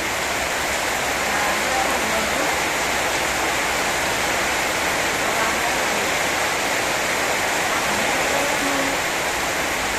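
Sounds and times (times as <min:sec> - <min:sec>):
heavy rain falling: 0:00.0 - 0:09.9.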